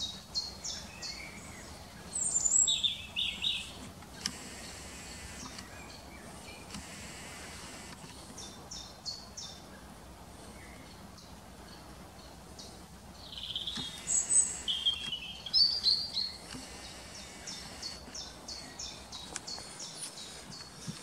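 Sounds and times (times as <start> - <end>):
birds chirping faintly: 0.0 - 21.0
songbirds singing: 0.0 - 21.0.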